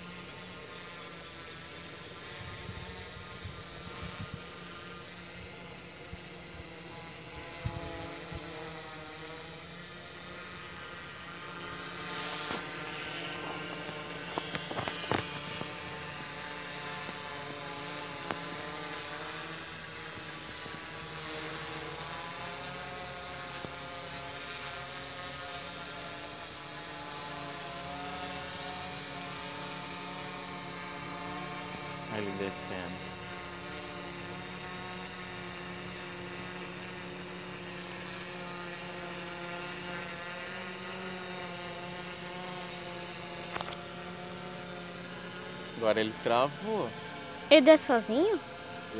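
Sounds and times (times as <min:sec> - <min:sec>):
quadcopter propellers whirring: 0:00.0 - 0:48.9.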